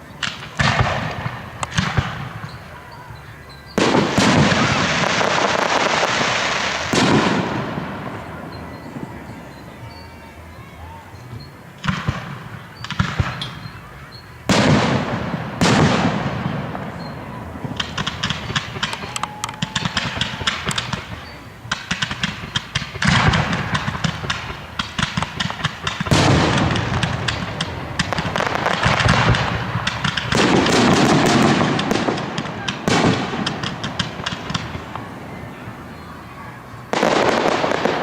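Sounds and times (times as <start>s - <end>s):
rapid fireworks crackling: 0.0s - 38.0s
fireworks shell booms echoing: 0.2s - 2.8s, 3.8s - 9.7s, 11.8s - 36.0s, 36.7s - 38.0s.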